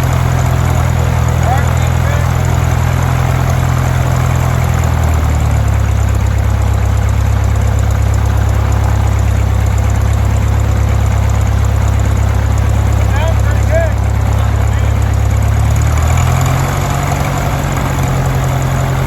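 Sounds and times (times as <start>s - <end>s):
aircraft engine running: 0.0s - 19.0s.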